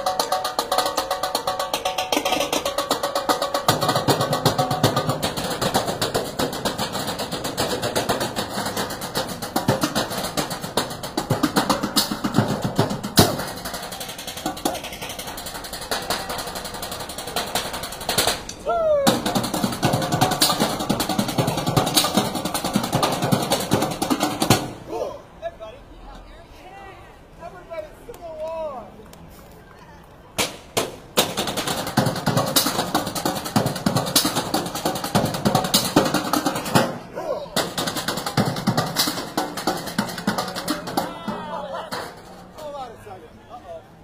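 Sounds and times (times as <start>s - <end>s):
drumming on metal trash cans: 0.0s - 24.8s, 30.4s - 42.8s.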